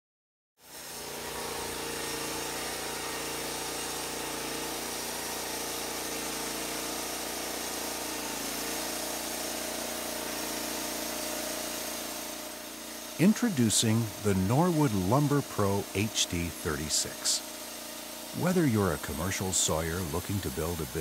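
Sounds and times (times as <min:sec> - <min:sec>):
sawmill engine drone: 0:00.6 - 0:21.0
band blade sawing wood: 0:00.7 - 0:21.0.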